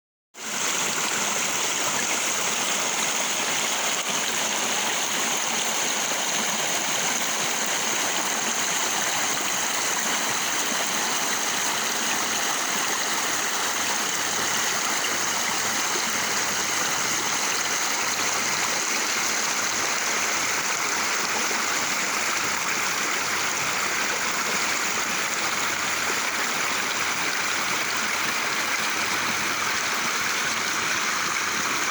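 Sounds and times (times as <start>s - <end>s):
flowing water rushing: 0.4s - 31.9s.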